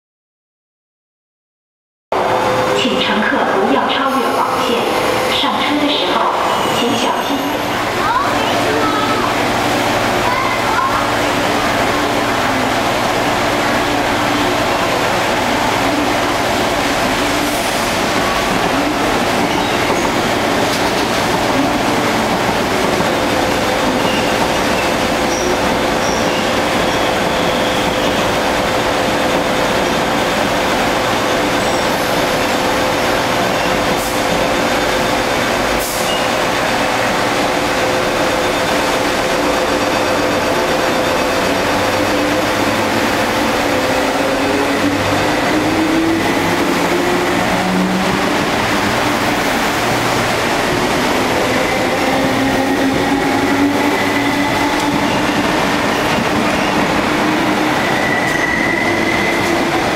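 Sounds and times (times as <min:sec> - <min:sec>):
steady train whine: 0:02.1 - 0:59.9
train wheels rumbling on track: 0:02.1 - 0:59.9.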